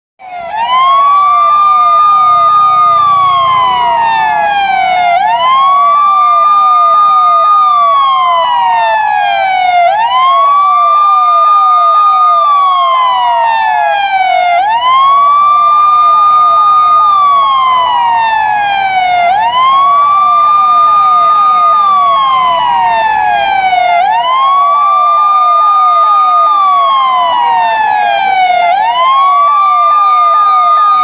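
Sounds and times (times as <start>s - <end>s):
fast chirping siren sweep: 0.2s - 31.0s
police siren wailing: 0.2s - 31.0s.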